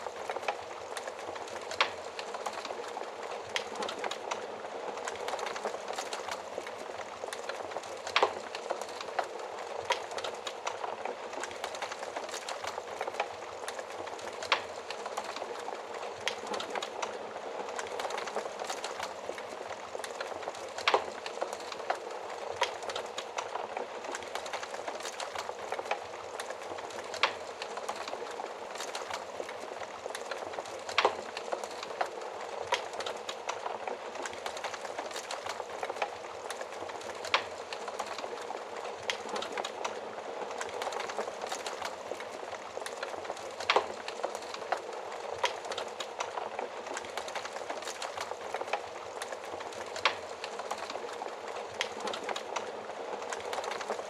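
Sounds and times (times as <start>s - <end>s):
fire crackling and popping: 0.0s - 54.0s
wood fire burning: 0.0s - 54.0s.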